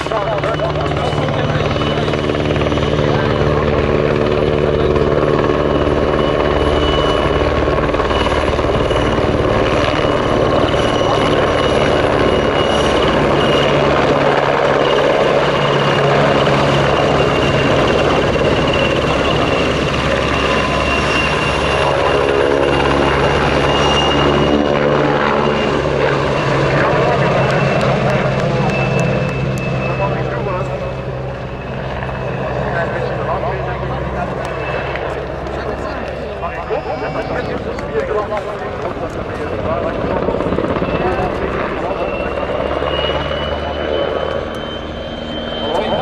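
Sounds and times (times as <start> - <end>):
helicopter rotor and engines running: 0.0 - 46.0.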